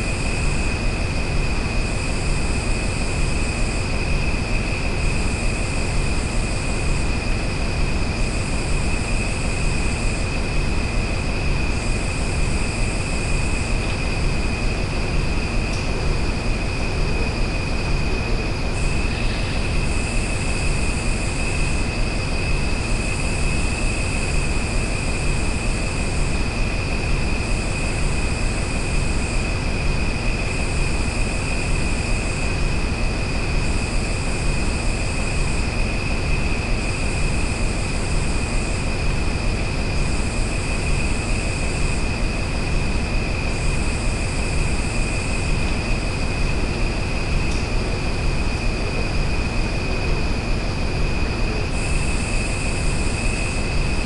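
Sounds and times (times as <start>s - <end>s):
continuous high-pitched tone: 0.0s - 54.0s.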